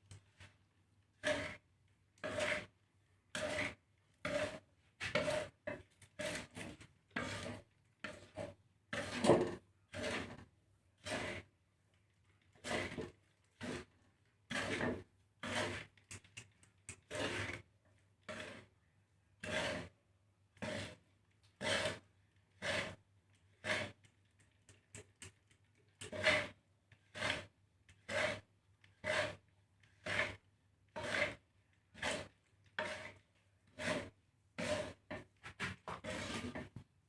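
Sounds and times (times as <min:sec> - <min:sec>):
spatula scraping seeds in a pan: 0:00.1 - 0:36.8.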